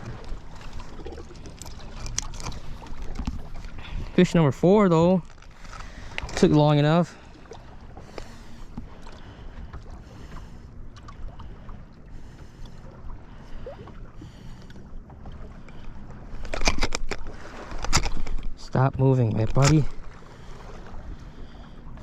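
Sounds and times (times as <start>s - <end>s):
fish flopping knocks and rattles: 0.0s - 11.6s, 13.7s - 21.0s
low steady hum: 0.0s - 22.0s
water and wind noise: 0.0s - 22.0s.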